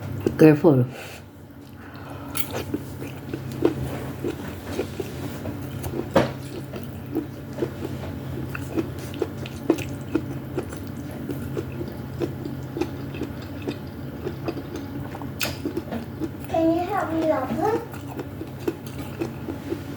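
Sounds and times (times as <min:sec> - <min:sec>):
wet chewing: 0:01.6 - 0:19.9.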